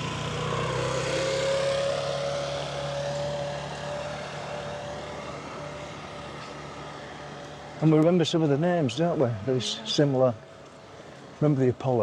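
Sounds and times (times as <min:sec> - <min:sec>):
engine passing by: 0:00.0 - 0:11.7.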